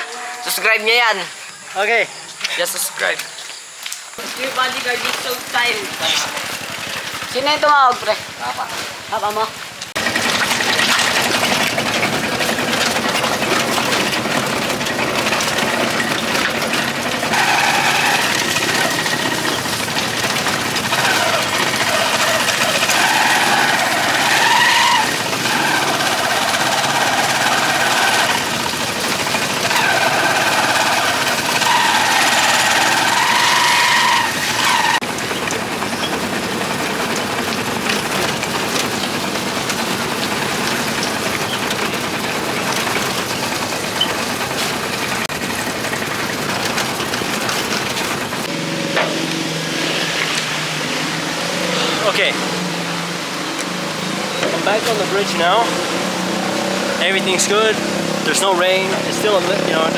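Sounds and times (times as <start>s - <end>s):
motorcycle engine running: 4.2s - 59.9s.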